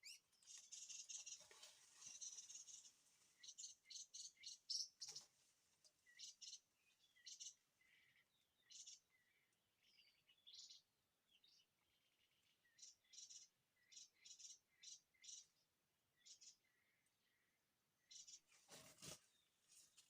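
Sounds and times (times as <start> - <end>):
faint small birds chirping: 0.0 - 20.0.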